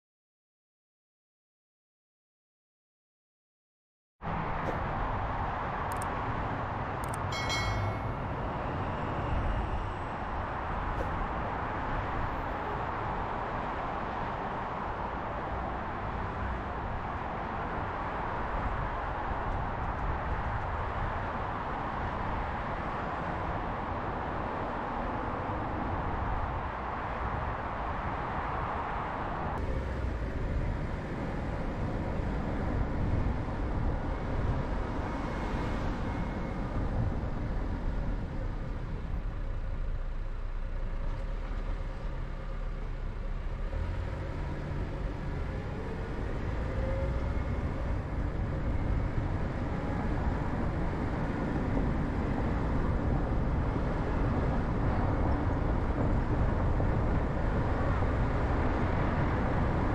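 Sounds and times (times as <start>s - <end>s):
car engine and tyre noise: 4.2s - 59.9s.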